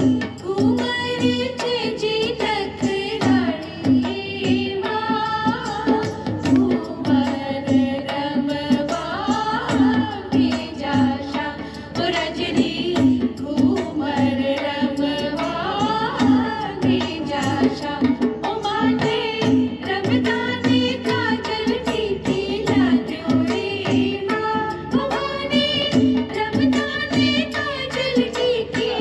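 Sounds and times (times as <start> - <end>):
steady drum beats: 0.0 - 29.0.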